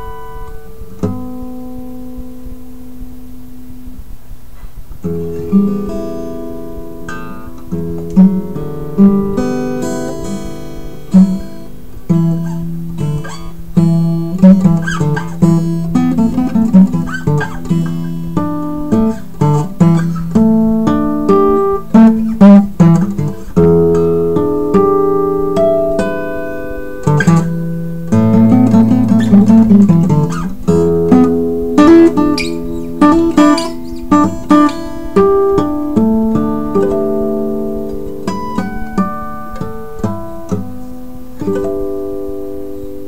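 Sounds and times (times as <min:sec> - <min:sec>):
fingerstyle acoustic guitar: 0:00.0 - 0:43.0.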